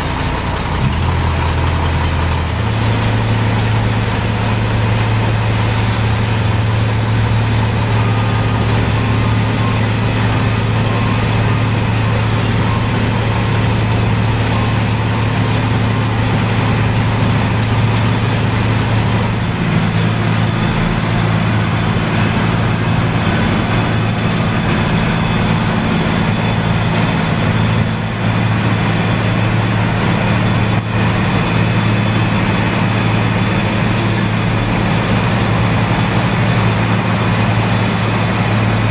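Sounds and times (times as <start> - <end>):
diesel engine humming: 0.0 - 38.9
milling drum grinding pavement: 2.3 - 38.8.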